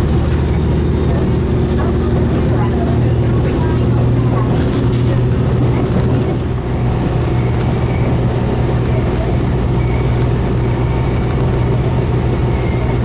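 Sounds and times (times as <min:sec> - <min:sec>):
railcar engine drone: 0:00.0 - 0:13.0.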